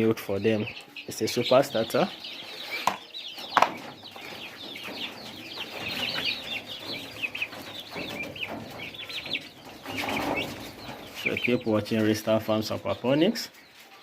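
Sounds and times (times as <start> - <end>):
turkey poults peeping: 0.0 - 14.0.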